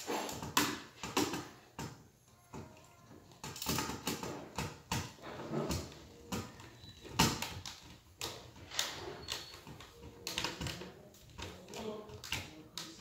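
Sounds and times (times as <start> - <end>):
hands and tools clicking and tapping: 0.0 - 13.0.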